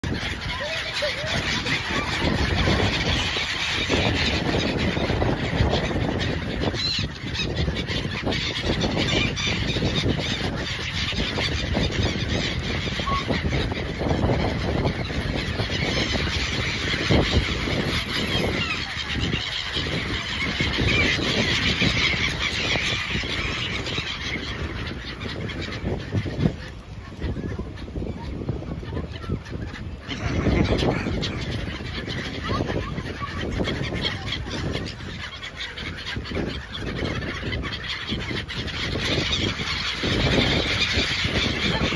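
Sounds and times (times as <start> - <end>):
gulls calling: 0.0 - 41.9.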